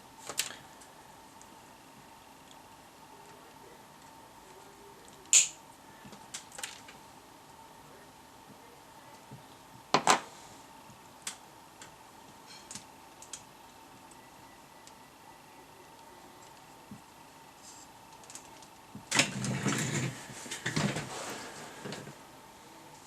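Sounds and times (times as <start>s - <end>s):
faint high whine: 0.0s - 23.0s.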